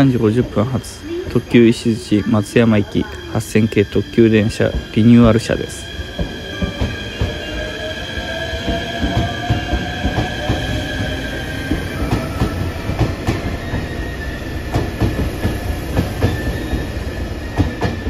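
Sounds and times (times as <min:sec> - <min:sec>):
electric train whine rising: 0:00.0 - 0:18.0.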